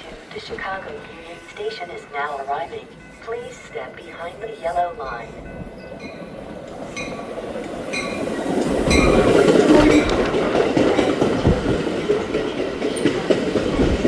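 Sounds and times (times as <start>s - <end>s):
train rumbling: 0.0s - 14.0s
train wheels clacking: 0.0s - 14.0s.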